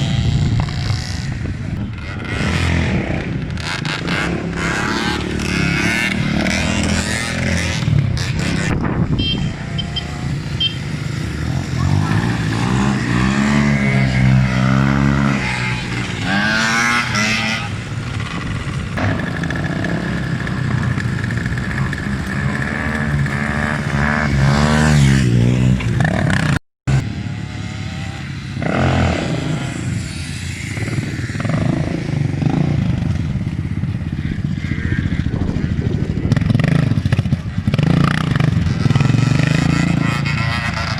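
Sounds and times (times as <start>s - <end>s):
motorbike engines revving: 0.0s - 40.9s.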